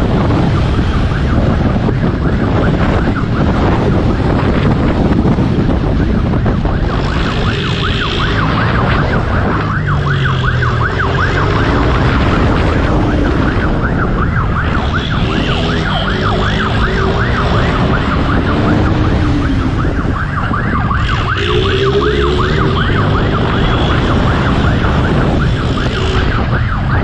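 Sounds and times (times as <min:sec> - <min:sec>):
police siren yelping: 0:00.0 - 0:05.0, 0:05.8 - 0:27.0
engine and road rumble: 0:00.0 - 0:27.0.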